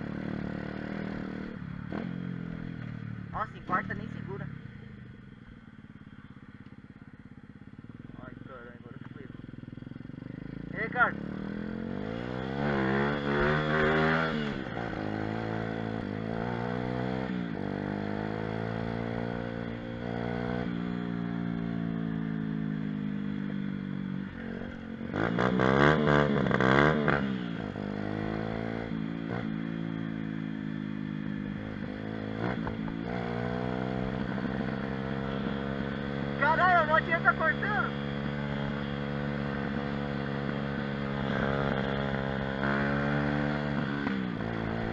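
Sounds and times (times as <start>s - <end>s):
pit bike engine revving: 7.7s - 44.9s.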